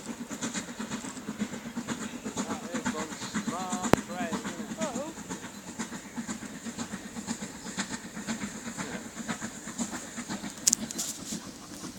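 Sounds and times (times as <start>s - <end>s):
train rumble: 0.0s - 11.9s
train wheels clicking over rail joints: 0.0s - 11.9s.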